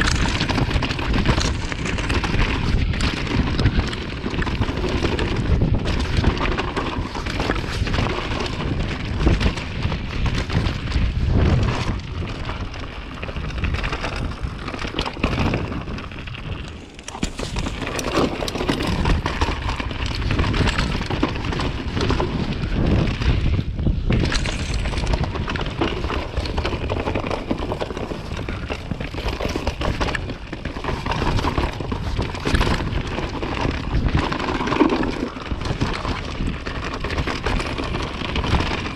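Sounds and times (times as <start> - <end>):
bike knocks and rattles: 0.0 - 38.9
tyres rumbling over stones: 0.0 - 38.9.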